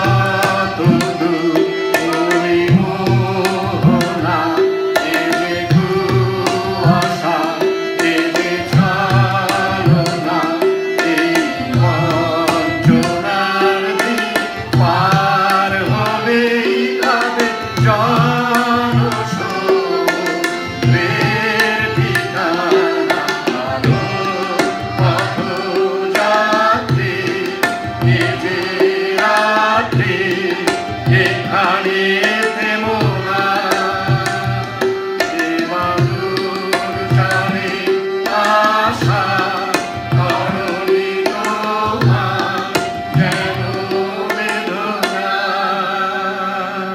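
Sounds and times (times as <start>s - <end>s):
group singing in chorus: 0.0s - 46.9s
harmonium held tones: 0.0s - 46.9s.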